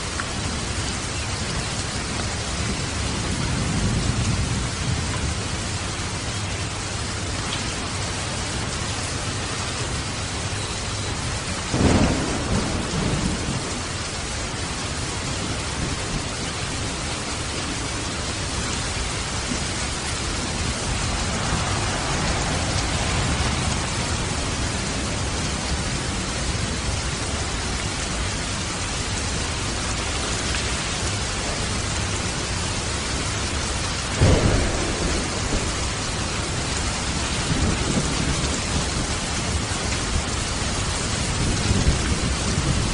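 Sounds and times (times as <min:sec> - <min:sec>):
rain and falling water: 0:00.0 - 0:42.9.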